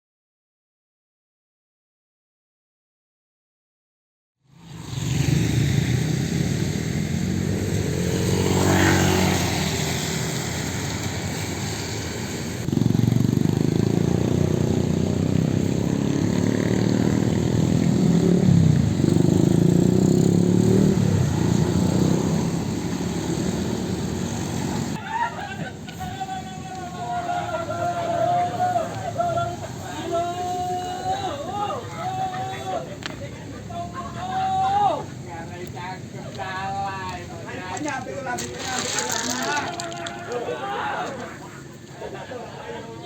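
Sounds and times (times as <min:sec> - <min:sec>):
motorcycle engines running: 0:04.5 - 0:25.0, 0:25.8 - 0:42.7
road traffic: 0:04.5 - 0:43.0.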